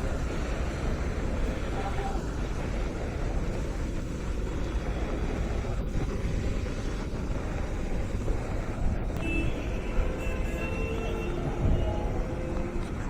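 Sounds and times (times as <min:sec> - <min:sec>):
outdoor noise: 0:00.0 - 0:13.0
wind rumbling on microphone: 0:00.0 - 0:13.0.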